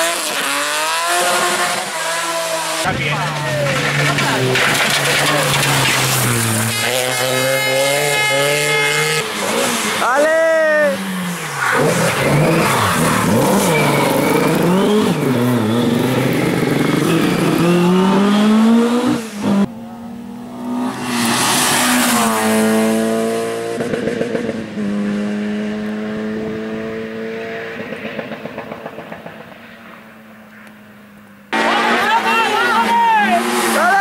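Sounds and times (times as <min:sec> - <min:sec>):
rally car engines revving: 0:00.0 - 0:30.0, 0:31.5 - 0:34.0.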